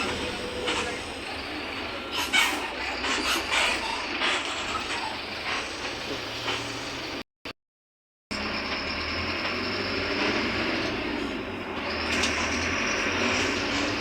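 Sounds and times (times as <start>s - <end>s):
bus engine drone: 0.0s - 7.2s, 8.3s - 14.0s
road noise: 0.0s - 7.2s, 8.3s - 14.0s.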